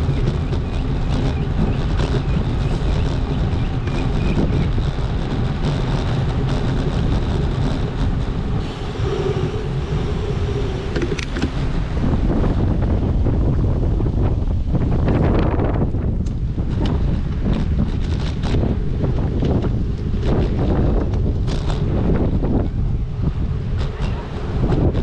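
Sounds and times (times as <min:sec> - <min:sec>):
street traffic: 0:00.0 - 0:15.2, 0:15.8 - 0:25.0
wind rumble: 0:00.0 - 0:25.0.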